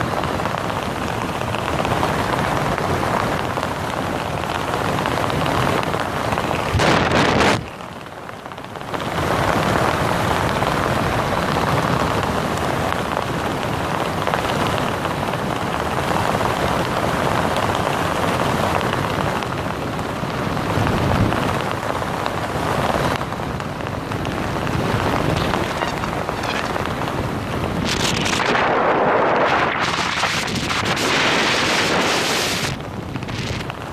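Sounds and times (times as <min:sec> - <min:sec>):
wind rushing on microphone: 0:00.0 - 0:33.9.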